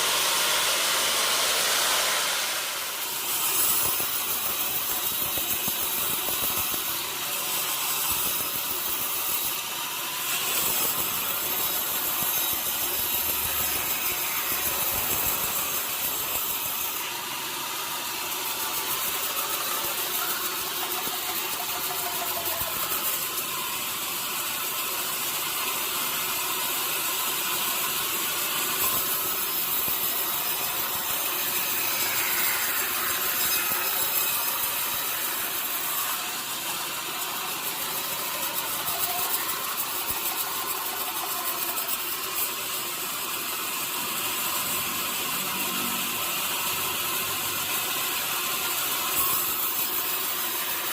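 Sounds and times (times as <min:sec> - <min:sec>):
sawmill saw cutting log: 0:00.0 - 0:50.9.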